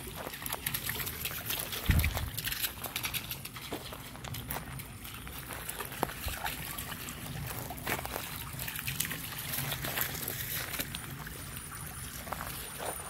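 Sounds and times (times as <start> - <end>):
dog paws splashing in water: 0.0 - 13.0.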